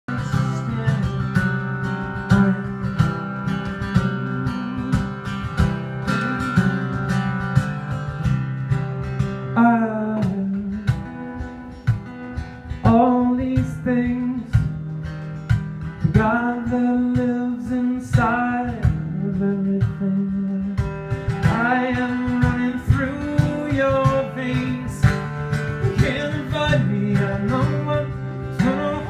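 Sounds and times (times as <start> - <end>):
man singing: 0.0 - 7.4, 9.5 - 11.1, 12.8 - 14.8, 16.0 - 29.0
acoustic guitar strumming: 0.0 - 29.0.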